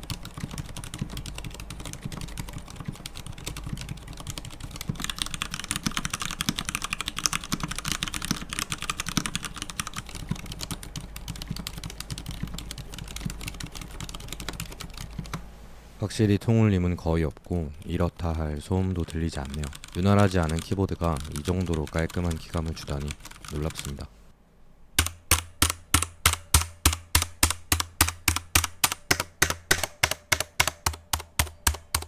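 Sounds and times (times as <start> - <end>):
mechanical keyboard typing: 0.0 - 15.5, 17.2 - 24.1, 25.0 - 32.0.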